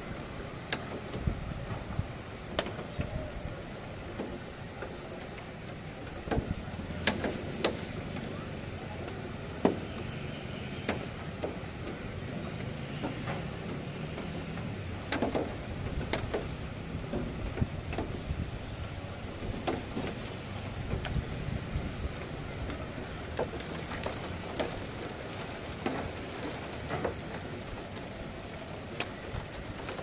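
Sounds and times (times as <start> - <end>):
heavy rain: 0.0 - 30.0
wind: 0.0 - 30.0.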